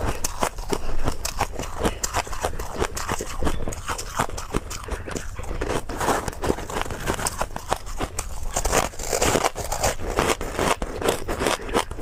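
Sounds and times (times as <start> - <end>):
fingers digging in crushed ice: 0.0 - 12.0
ice being chewed: 0.0 - 12.0.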